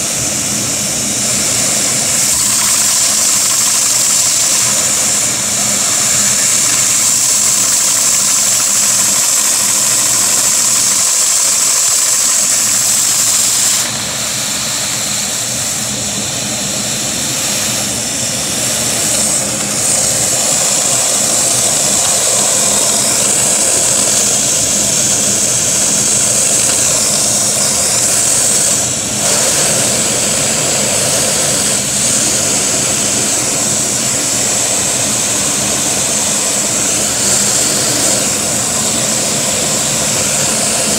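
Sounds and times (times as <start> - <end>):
vacuum suction rush and whine: 0.0 - 40.9.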